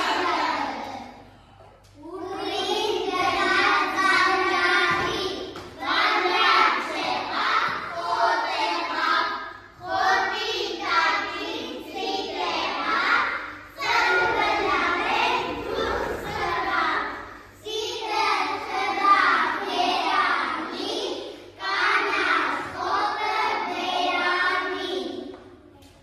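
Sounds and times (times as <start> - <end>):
children singing together: 0.0 - 25.4.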